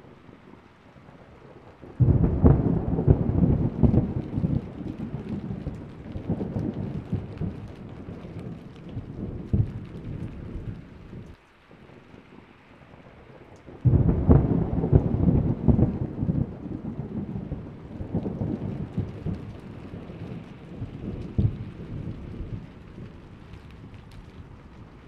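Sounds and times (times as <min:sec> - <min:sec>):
loud thunderclap crackling: 0:00.0 - 0:25.0
thunder rumbling: 0:00.0 - 0:25.0.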